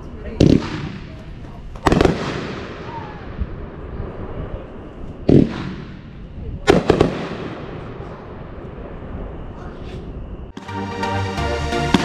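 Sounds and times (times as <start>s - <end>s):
distant firework bangs: 0.3s - 10.6s.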